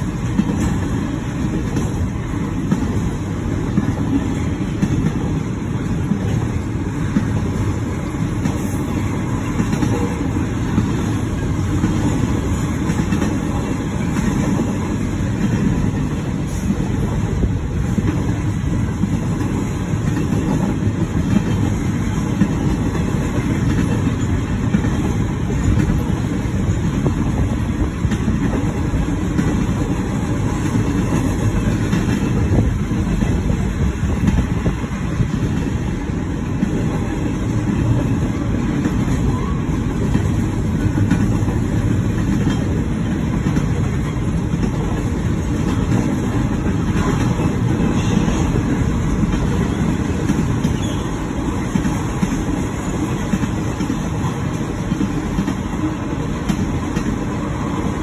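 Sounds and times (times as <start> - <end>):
steel wheels rumbling on rails: 0.0 - 58.0.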